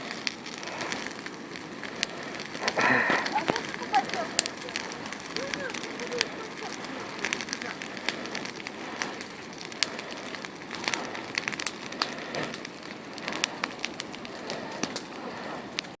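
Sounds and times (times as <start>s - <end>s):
bonfire crackling and popping: 0.0s - 16.0s
steady hiss of fire: 0.0s - 16.0s.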